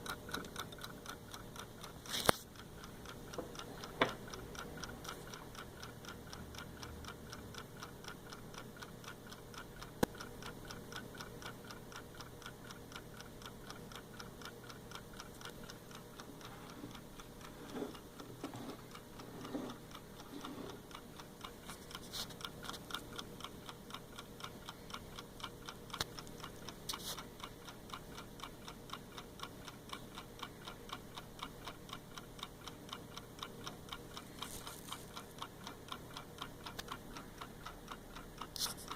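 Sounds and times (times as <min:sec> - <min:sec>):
mechanical clock ticking: 0:00.0 - 0:38.9.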